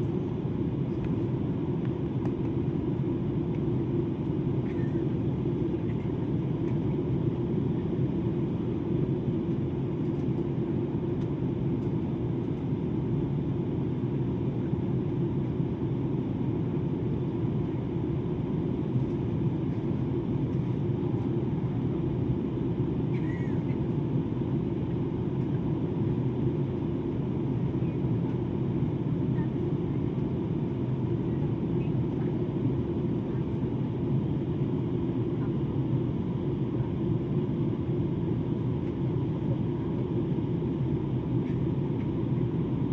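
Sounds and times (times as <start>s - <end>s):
airliner cabin rumble: 0.0s - 42.9s.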